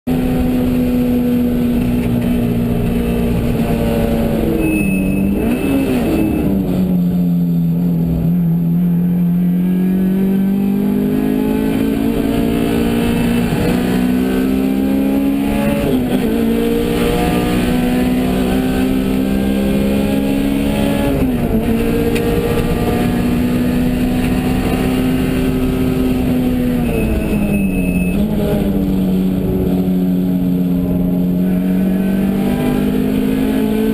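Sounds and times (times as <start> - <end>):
car pitched drone: 0.1 - 33.9.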